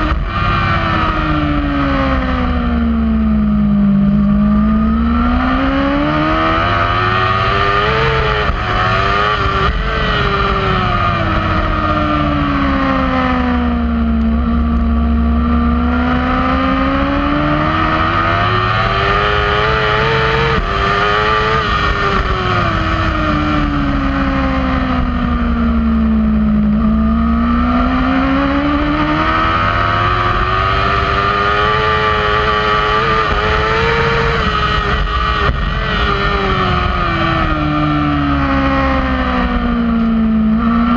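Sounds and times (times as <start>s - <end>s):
motorcycle engine at race pace: 0.0s - 40.9s.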